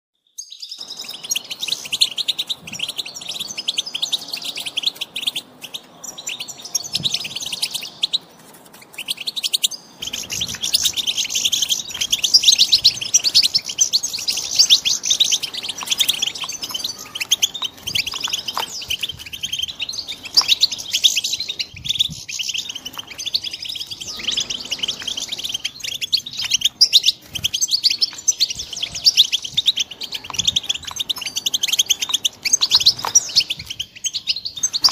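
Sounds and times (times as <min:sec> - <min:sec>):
finches twittering and chirping: 0:00.4 - 0:34.9.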